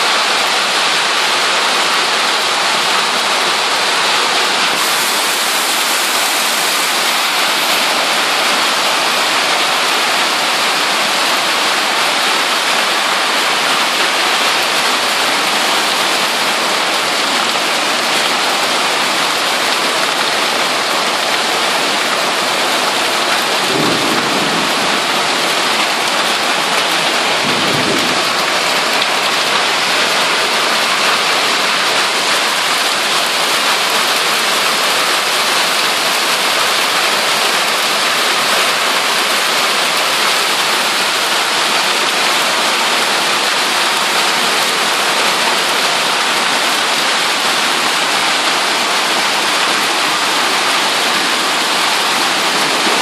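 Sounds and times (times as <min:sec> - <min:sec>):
heavy rain on pavement: 0:00.0 - 0:53.0
water pouring off roof: 0:00.0 - 0:53.0.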